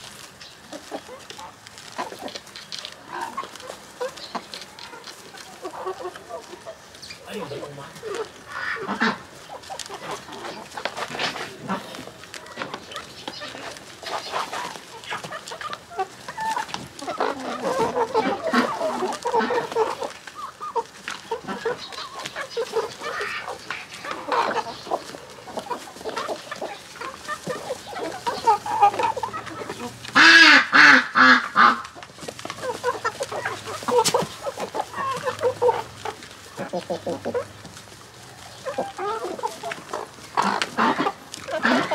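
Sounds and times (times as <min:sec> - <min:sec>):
chickens clucking: 0:00.0 - 0:41.9
waterfowl honking: 0:00.7 - 0:37.5, 0:38.4 - 0:41.9.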